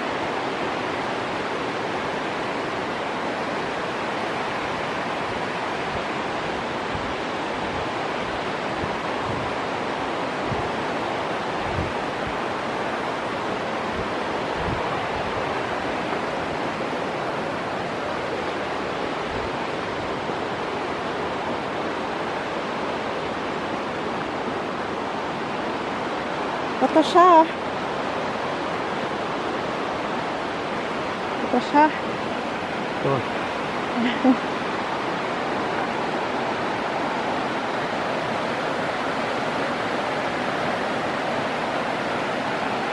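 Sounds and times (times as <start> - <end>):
river white water rushing: 0.0 - 42.9.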